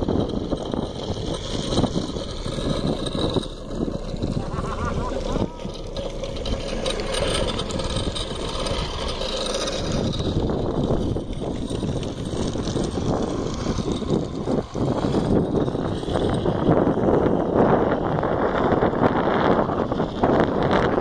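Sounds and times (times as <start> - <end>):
car road noise: 0.0 - 21.0
wind on microphone: 0.0 - 21.0.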